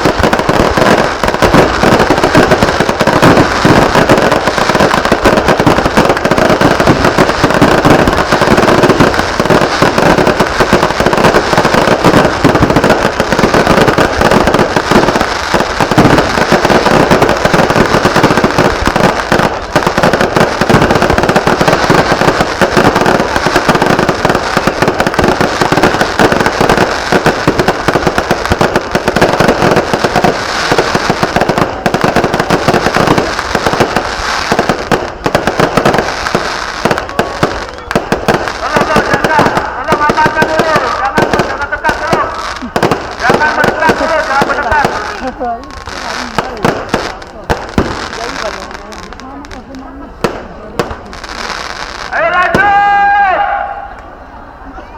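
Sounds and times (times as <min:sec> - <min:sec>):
firecrackers popping and banging: 0:00.0 - 0:53.2.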